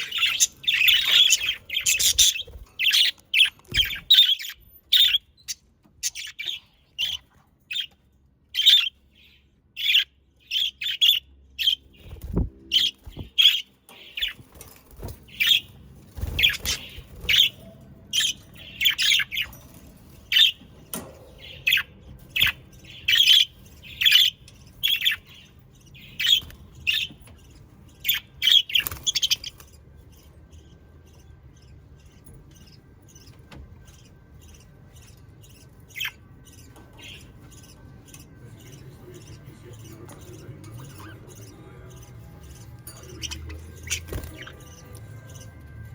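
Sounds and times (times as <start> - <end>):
parakeets chirping and squawking: 0.0 - 45.9.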